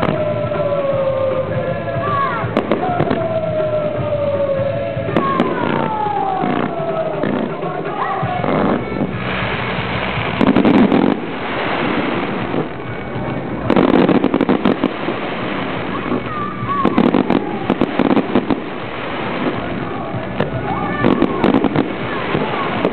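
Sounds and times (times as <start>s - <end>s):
fireworks crackling: 0.0s - 22.9s
rumbling hiss: 0.0s - 22.9s.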